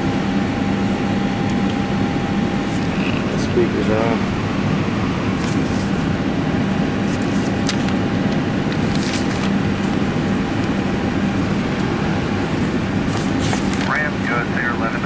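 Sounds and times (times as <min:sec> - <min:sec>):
cockpit air hum and rush: 0:00.0 - 0:15.0.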